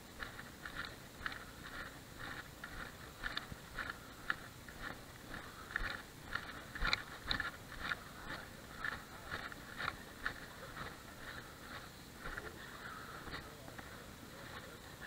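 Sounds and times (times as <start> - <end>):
footsteps crunching on gravel: 0.0 - 15.0
fishing gear rattling: 0.2 - 12.6.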